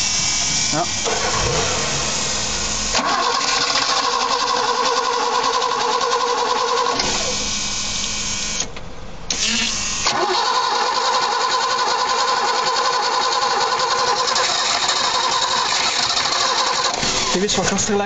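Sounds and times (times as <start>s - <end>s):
engine cranking on starter motor: 0.2s - 8.7s, 9.3s - 18.0s.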